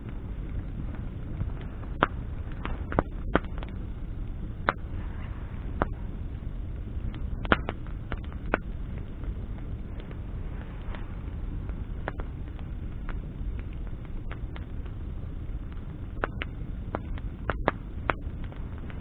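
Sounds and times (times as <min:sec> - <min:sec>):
low rumble of flames: 0:00.0 - 0:19.0
wood popping in bonfire: 0:00.0 - 0:19.0.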